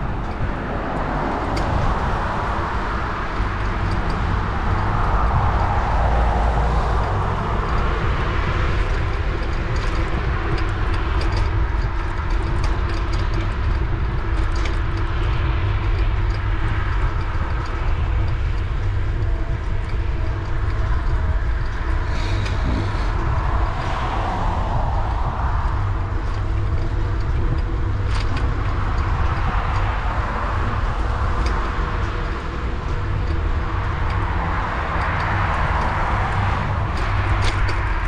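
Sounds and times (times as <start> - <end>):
bicycle tyre and road noise: 0.0 - 38.0
wind buffeting microphone: 0.0 - 38.0.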